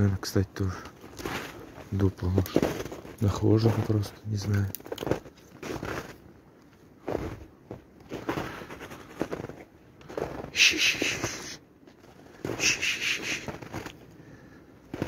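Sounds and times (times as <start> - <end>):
footsteps crunching in snow: 0.6 - 15.0.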